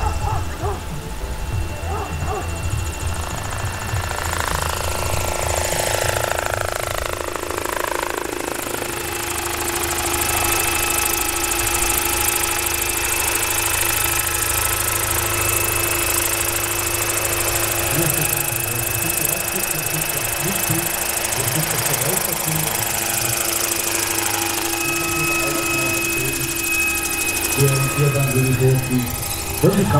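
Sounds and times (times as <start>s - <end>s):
electric drive whine: 0.0s - 29.9s
rotor blades pulsing beat: 0.0s - 29.9s.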